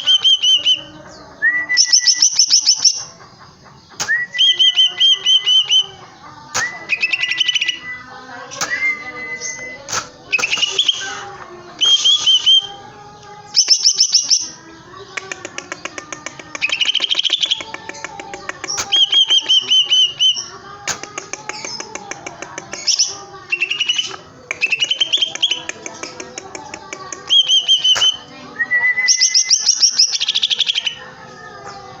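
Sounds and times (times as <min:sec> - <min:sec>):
bird singing trills and warbles: 0:00.0 - 0:32.0.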